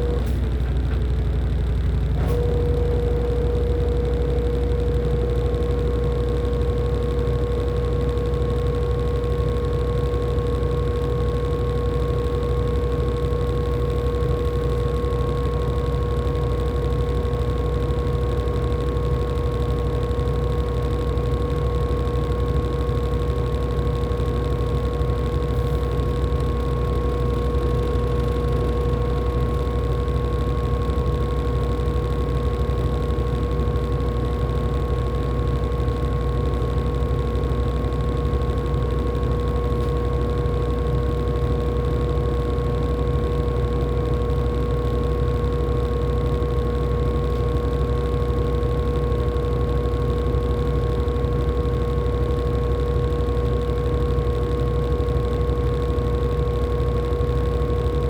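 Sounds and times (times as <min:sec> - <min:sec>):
low hum: 0:00.0 - 0:58.0
washing machine whine: 0:00.0 - 0:58.0.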